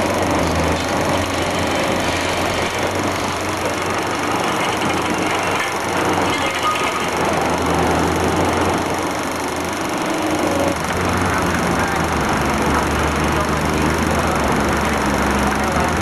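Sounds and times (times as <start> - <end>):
low machinery drone: 0.0 - 16.0.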